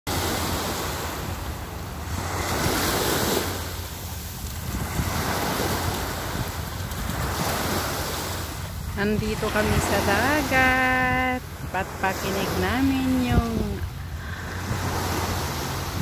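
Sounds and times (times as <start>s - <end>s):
sea waves washing on beach: 0.1s - 16.0s
wind rumbling on microphone: 0.3s - 16.0s.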